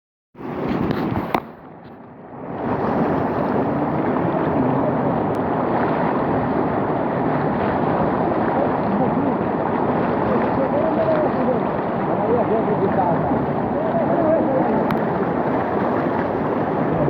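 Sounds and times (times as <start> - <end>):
floodwater rushing: 0.4 - 17.0.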